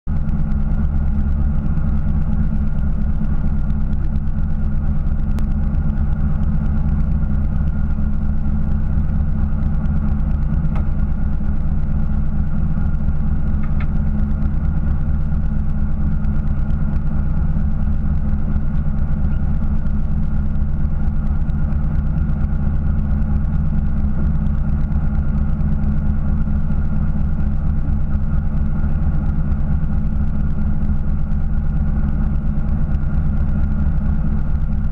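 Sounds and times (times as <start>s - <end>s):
boat engine idling: 0.1s - 34.9s.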